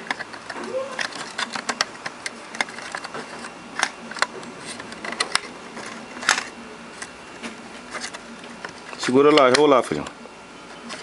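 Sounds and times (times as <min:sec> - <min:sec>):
clicks of plastic housing handled: 0:00.0 - 0:10.2.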